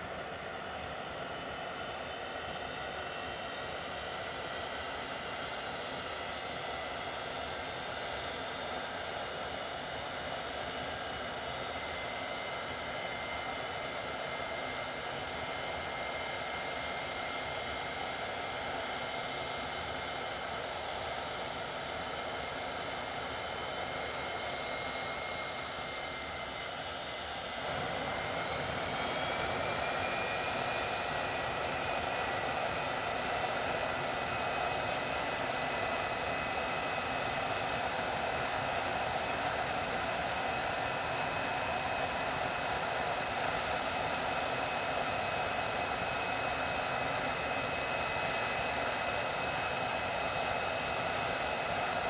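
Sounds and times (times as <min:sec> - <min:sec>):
jet engine whine: 0:00.0 - 0:52.0.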